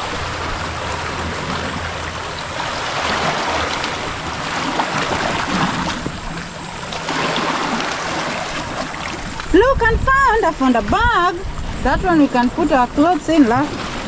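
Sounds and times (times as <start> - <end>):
small waves washing on beach: 0.0 - 14.0.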